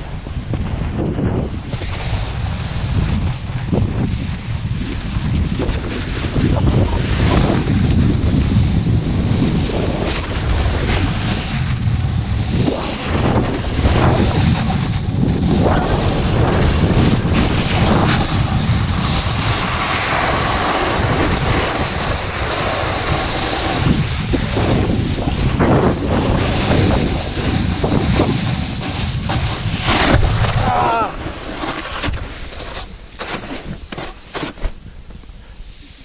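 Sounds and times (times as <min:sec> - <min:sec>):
wind buffeting microphone: 0:00.0 - 0:34.0
skis sliding over snow: 0:00.0 - 0:36.0.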